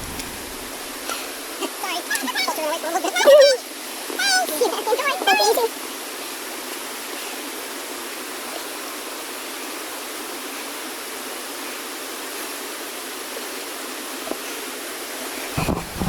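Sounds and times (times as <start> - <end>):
stream rushing: 0.0 - 16.0.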